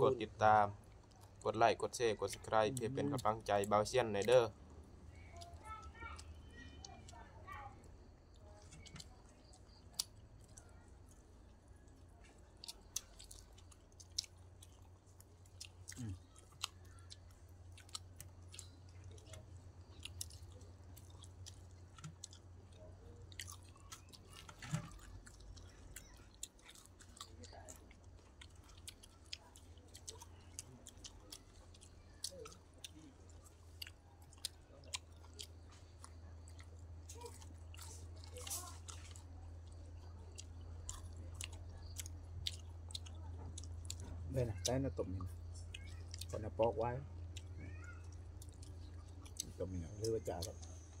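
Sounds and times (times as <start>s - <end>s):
people chewing: 0.0s - 51.0s
crunching raw vegetables: 7.8s - 51.0s.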